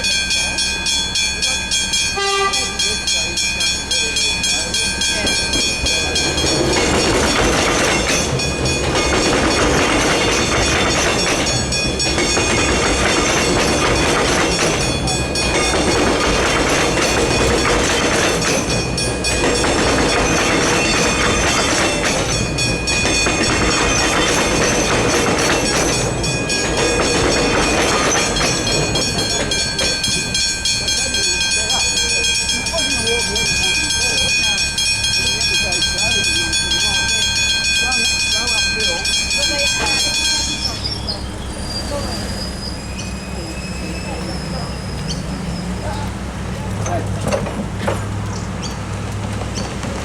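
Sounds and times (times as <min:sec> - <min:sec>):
crossing bells ringing: 0:00.0 - 0:49.9
train wheels clattering on rails: 0:00.0 - 0:50.0.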